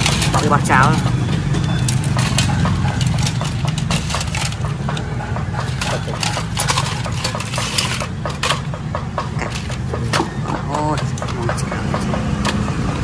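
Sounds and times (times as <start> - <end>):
hard objects clicking and rattling: 0.0 - 13.0.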